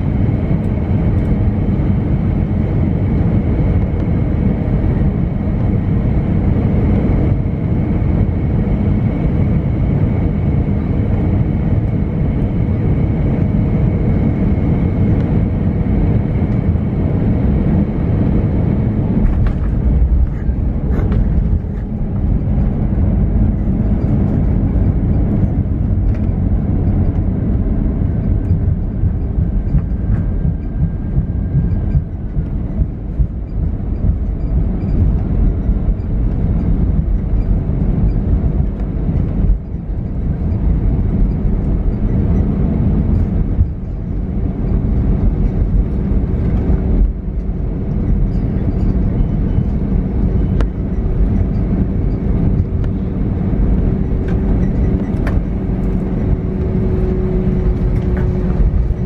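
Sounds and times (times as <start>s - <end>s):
aircraft wheels and engines rumbling: 0.0s - 59.0s.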